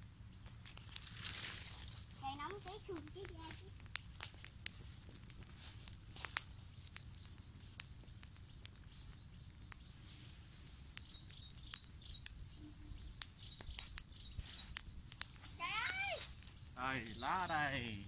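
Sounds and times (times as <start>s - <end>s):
fire crackling and snapping: 0.0s - 18.0s.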